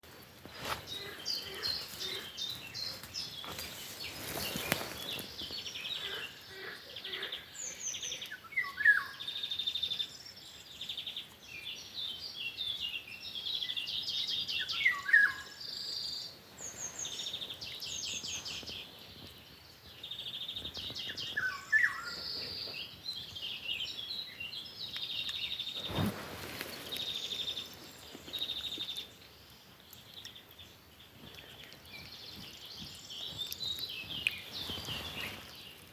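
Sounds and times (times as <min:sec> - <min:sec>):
songbird singing: 0:00.0 - 0:35.9.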